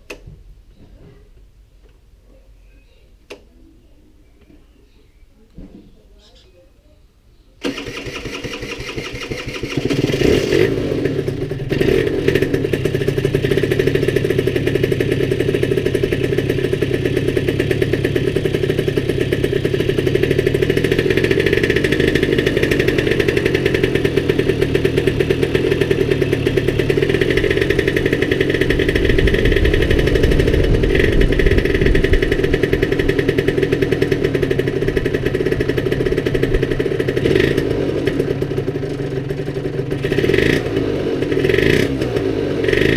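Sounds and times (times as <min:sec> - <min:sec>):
two-stroke motorcycle engine idling: 0:07.6 - 0:42.9.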